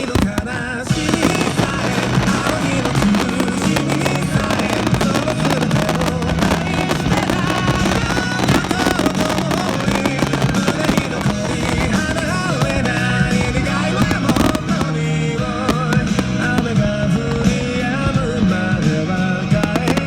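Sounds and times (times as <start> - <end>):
fireworks bursting and crackling: 0.0 - 20.0
loud music over loudspeakers: 0.0 - 20.0.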